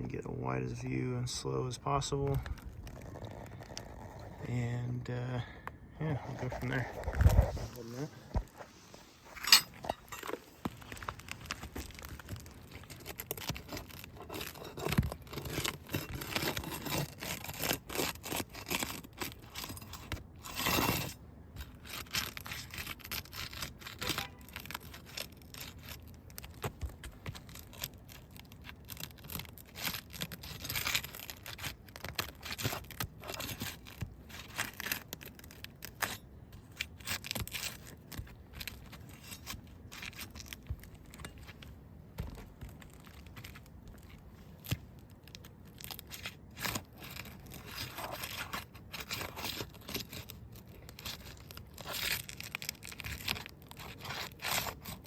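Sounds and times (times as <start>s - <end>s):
roof shingles tearing loose: 9.7s - 41.6s, 42.6s - 55.0s.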